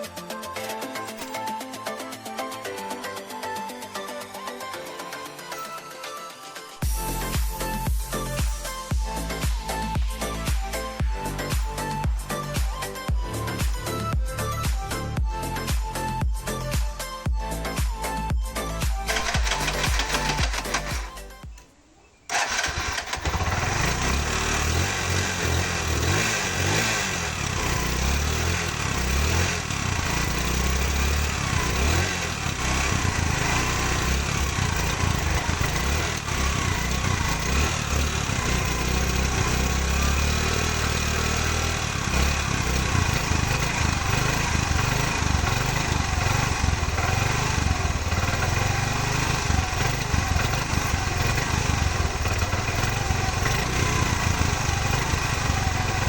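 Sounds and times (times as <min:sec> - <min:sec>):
motorcycle engine idling: 0:06.8 - 0:16.6, 0:18.5 - 0:21.7, 0:22.3 - 0:56.0.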